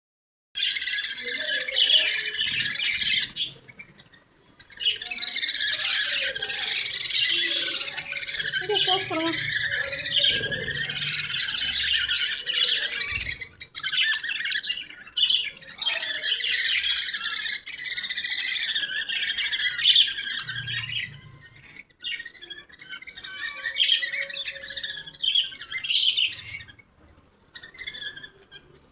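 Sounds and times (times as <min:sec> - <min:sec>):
lovebirds chattering and chirping: 0:00.6 - 0:28.9.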